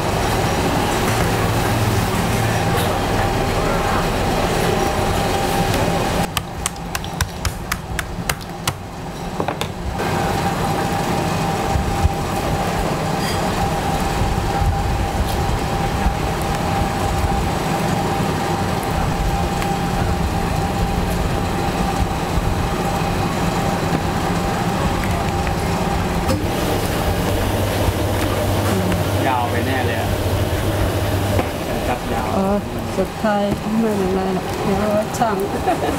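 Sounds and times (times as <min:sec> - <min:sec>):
constant hum: 0:00.0 - 0:35.9
low mechanical rumble: 0:00.0 - 0:35.9.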